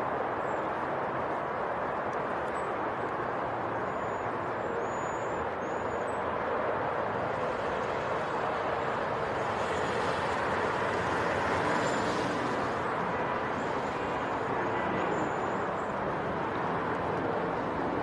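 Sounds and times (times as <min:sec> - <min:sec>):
outdoor background rush: 0:00.0 - 0:18.0.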